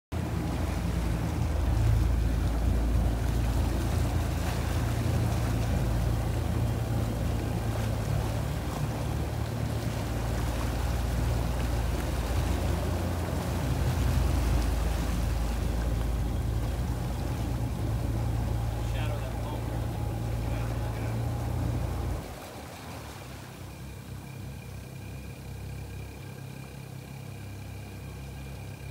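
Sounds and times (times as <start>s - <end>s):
outboard motors humming: 0.1s - 28.9s
propeller wash churning water: 0.1s - 28.9s.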